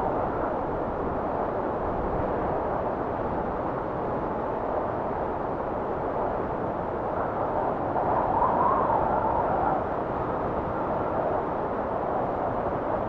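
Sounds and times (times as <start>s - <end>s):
blizzard wind rushing: 0.0s - 13.0s.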